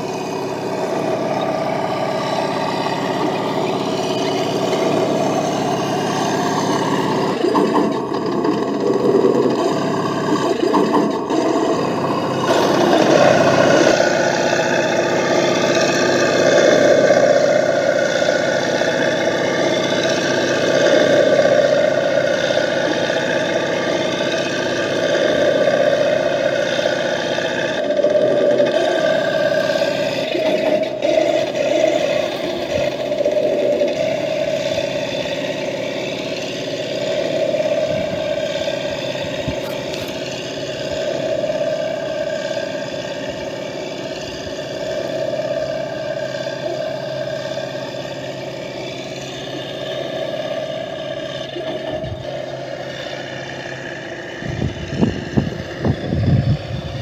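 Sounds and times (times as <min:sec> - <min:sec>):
toy tank droning on gravel: 0:00.0 - 0:57.0.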